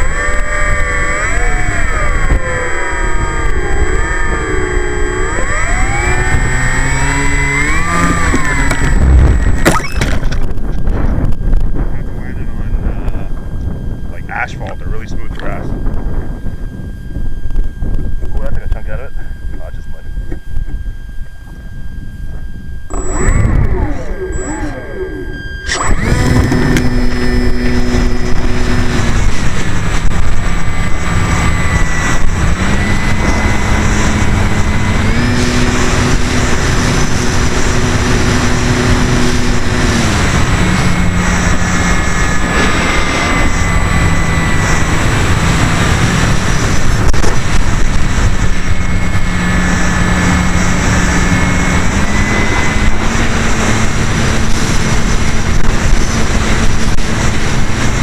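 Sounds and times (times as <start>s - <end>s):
electric motor and propeller whine: 0.0s - 58.0s.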